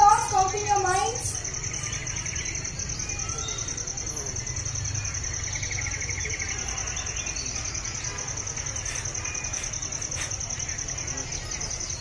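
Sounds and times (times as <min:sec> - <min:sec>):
high cricket trill: 0:00.0 - 0:12.0
lower cricket trill: 0:00.0 - 0:12.0.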